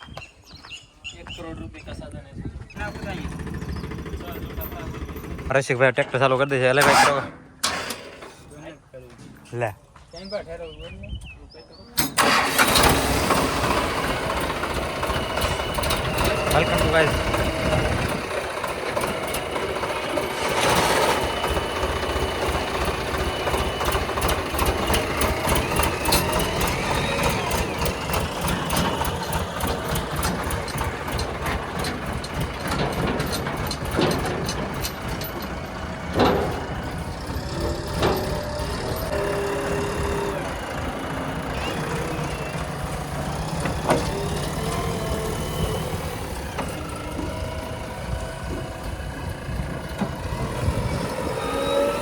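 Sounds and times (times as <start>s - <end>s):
diesel engines running: 0.0s - 10.9s, 12.0s - 52.0s.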